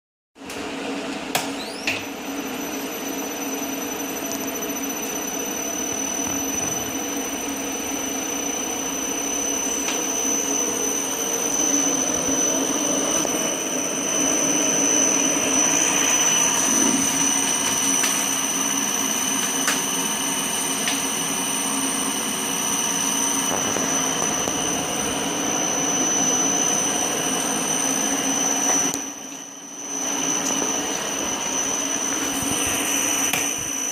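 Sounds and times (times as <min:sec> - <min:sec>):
machine hum: 0:00.5 - 0:33.9
high-pitched whine: 0:01.3 - 0:33.9.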